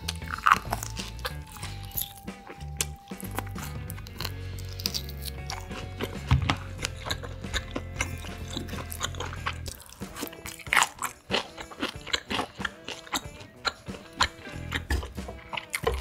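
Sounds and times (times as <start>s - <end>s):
background music sustained notes: 0.0s - 16.0s
person chewing with wet smacks: 0.0s - 16.0s.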